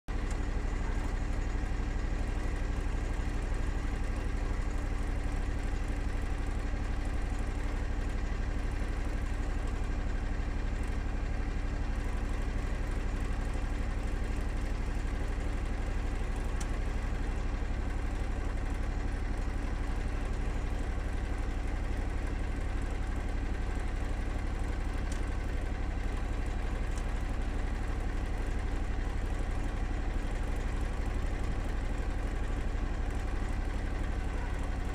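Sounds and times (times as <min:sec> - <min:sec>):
low hum of running machinery: 0:00.1 - 0:34.9.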